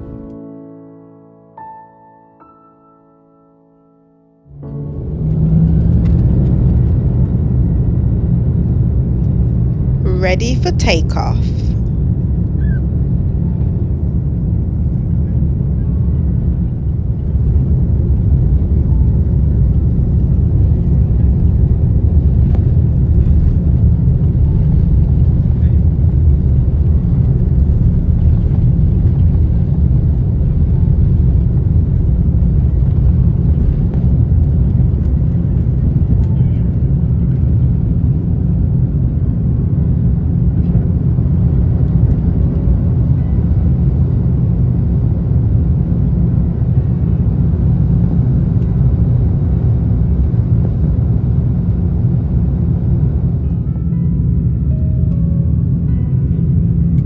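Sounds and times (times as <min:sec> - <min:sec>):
airliner engines rumbling: 0:05.0 - 0:57.0.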